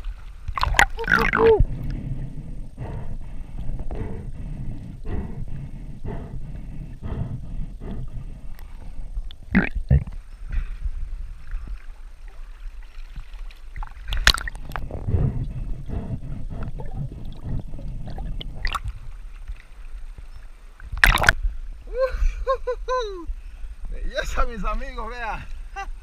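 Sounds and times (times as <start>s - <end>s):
water splashing and sloshing: 0.0s - 4.9s, 5.5s - 21.9s.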